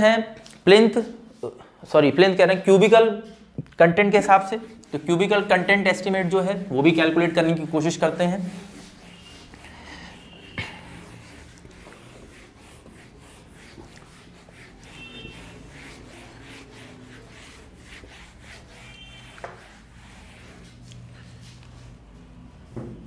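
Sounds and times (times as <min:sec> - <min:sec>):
eraser rubbing whiteboard: 0:03.2 - 0:22.0.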